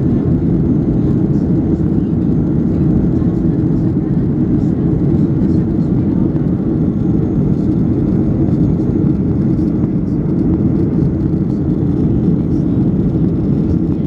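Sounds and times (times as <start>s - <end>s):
jet engine roar in cabin: 0.0s - 14.0s.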